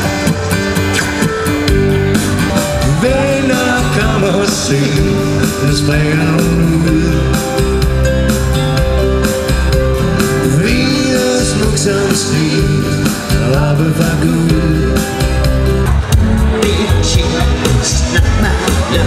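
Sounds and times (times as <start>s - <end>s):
dance-band keyboard music: 0.0s - 19.0s.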